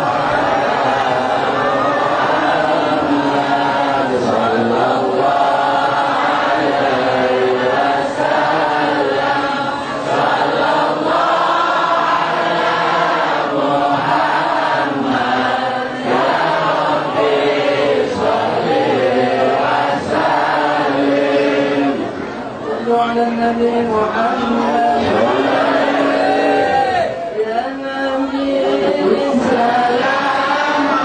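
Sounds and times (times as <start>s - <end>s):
men chanting a prayer in unison: 0.0s - 22.1s, 22.7s - 31.0s.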